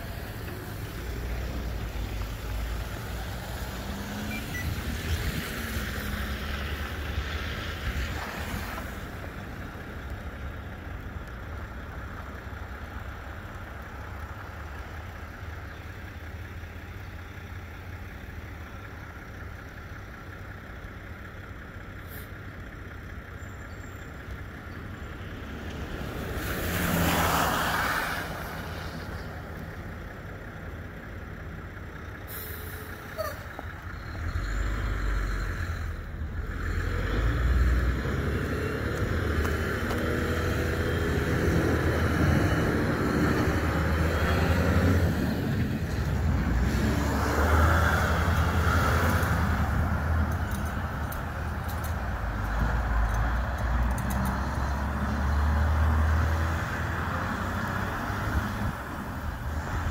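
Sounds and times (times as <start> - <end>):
low traffic rumble: 0.0 - 59.9
truck passing: 0.0 - 59.9.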